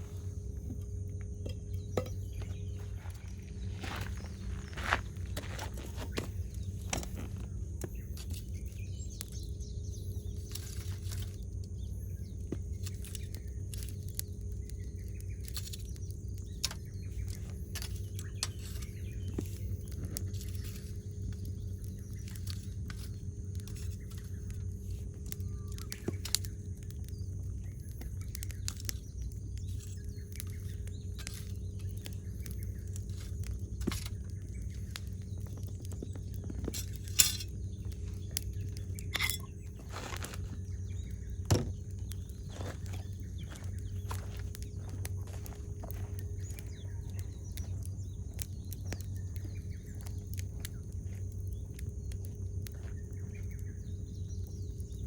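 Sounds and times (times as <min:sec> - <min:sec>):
campfire crackling: 0:00.0 - 0:55.0
fire pops and snaps: 0:00.0 - 0:55.0
steady low hum: 0:00.0 - 0:55.0.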